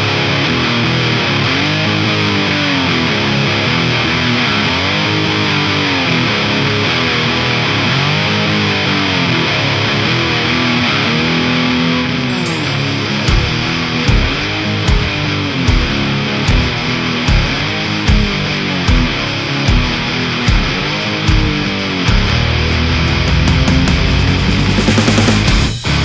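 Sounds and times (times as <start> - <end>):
distorted electric guitar swooping: 0.0 - 26.0.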